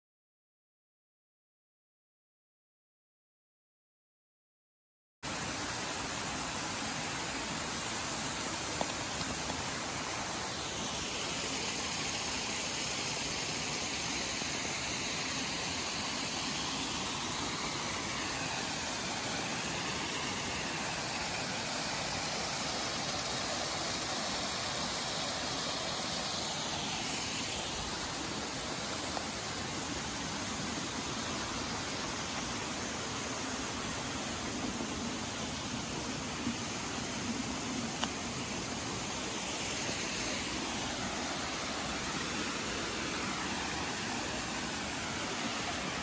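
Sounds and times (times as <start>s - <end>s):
waterfall and stream rushing: 5.3s - 46.0s.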